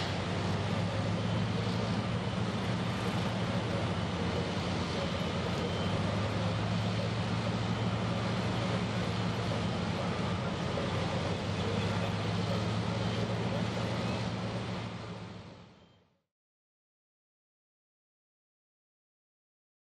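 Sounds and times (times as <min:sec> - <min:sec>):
heavy machinery droning: 0:00.0 - 0:16.2.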